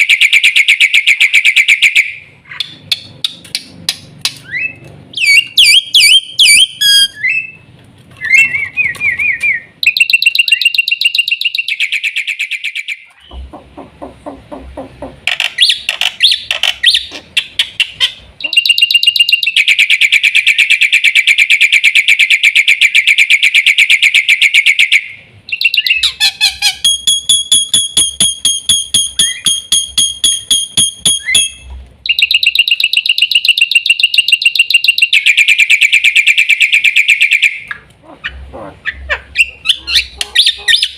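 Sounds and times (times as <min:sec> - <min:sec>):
bird chattering: 0:00.0 - 0:07.6, 0:08.2 - 0:21.8, 0:22.4 - 0:40.9.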